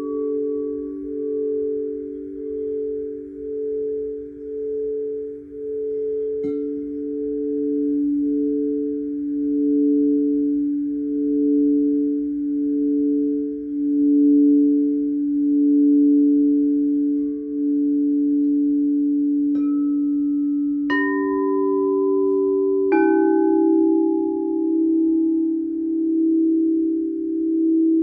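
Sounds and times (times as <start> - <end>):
singing bowl struck: 0.0 - 28.0
singing bowls humming: 0.0 - 28.0.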